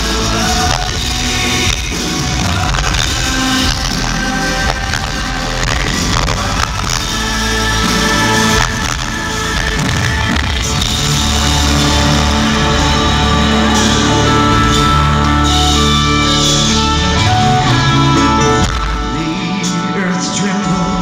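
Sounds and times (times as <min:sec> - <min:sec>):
drums: 0:00.0 - 0:21.0
electric guitar: 0:00.0 - 0:21.0.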